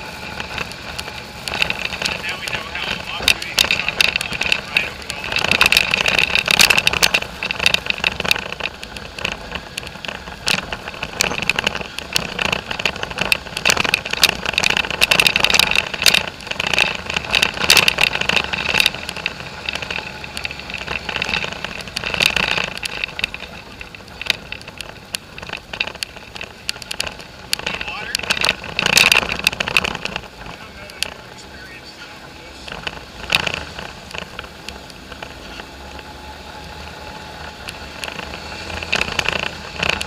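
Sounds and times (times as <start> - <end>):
four-wheeler engine running: 0.0 - 40.0
sharp clicks and rattles: 0.0 - 40.0.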